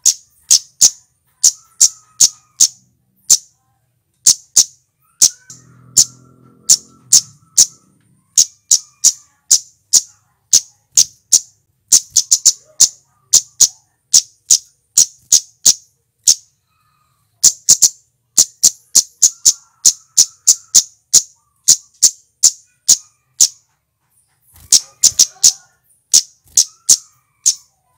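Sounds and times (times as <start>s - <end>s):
bird calling high tsit notes: 4.2s - 23.7s, 24.5s - 27.7s.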